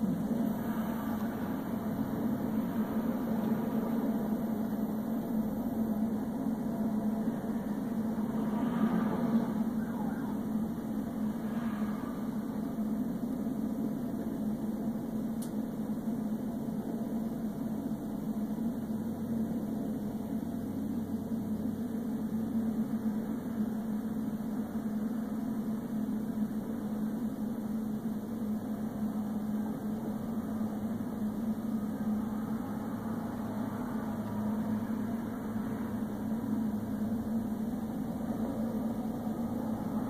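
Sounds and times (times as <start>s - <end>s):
road noise: 0.0s - 25.1s, 29.0s - 40.0s
constant hum: 0.0s - 40.0s
vehicle engine drone: 0.0s - 40.0s.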